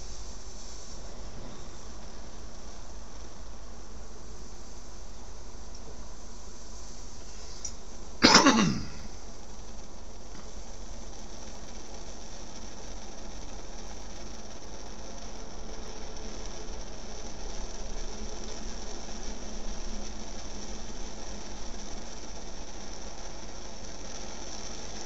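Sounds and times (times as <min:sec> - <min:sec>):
stove burner hissing: 0:00.0 - 0:25.0
stove burner igniting: 0:00.0 - 0:25.0.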